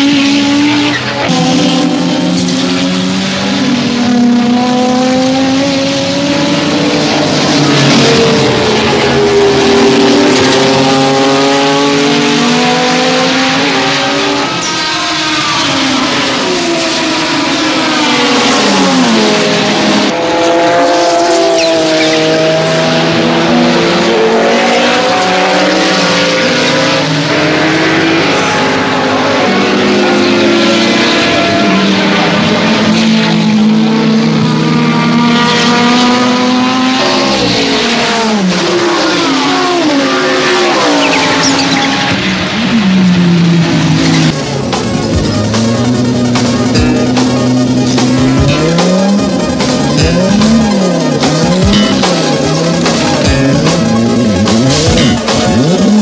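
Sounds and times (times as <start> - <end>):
race car engines at full throttle: 0.0 - 56.0.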